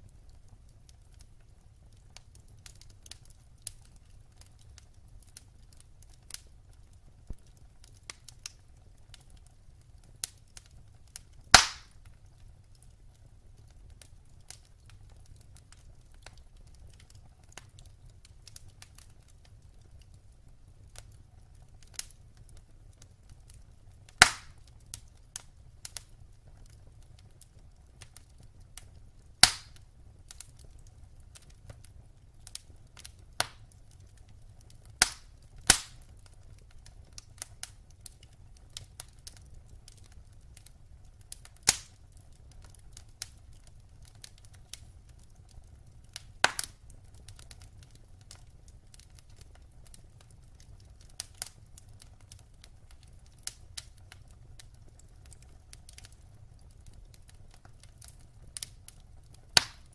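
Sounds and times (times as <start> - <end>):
burning logs popping: 0.0 - 59.9
fire rumbling and crackling: 0.0 - 59.9.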